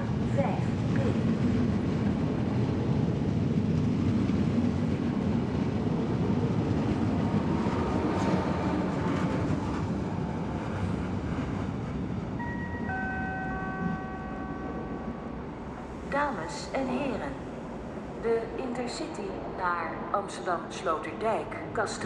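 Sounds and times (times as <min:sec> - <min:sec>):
train wheels rumbling on rails: 0:00.0 - 0:19.6.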